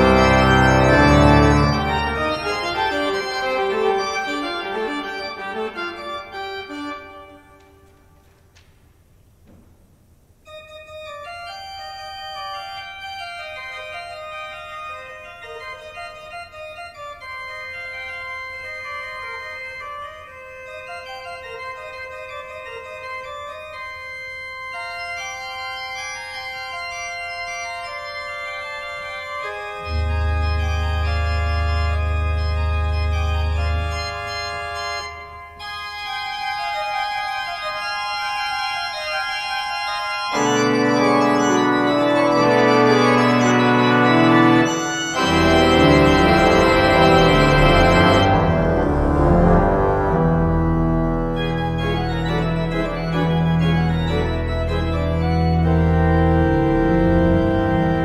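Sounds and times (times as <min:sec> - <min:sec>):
church organ playing: 0:00.0 - 0:08.4, 0:10.3 - 0:58.0.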